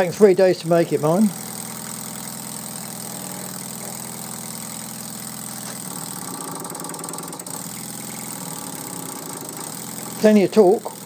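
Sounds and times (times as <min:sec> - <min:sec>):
model steam engine exhaust beat: 0:00.0 - 0:11.0.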